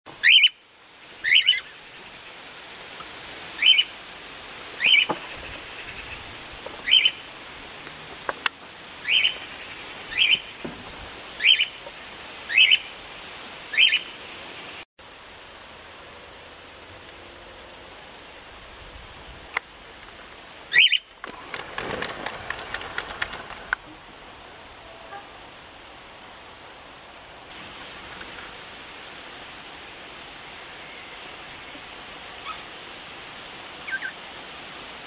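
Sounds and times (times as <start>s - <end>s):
background hiss: 0.1s - 35.0s.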